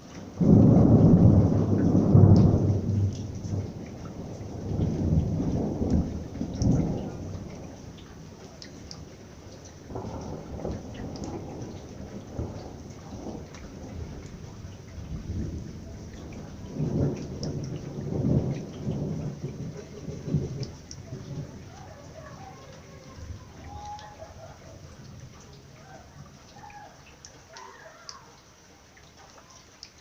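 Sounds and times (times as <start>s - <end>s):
raindrops ticking: 0.0s - 30.0s
steady rain: 0.0s - 30.0s
thunder rumbling: 0.3s - 27.0s.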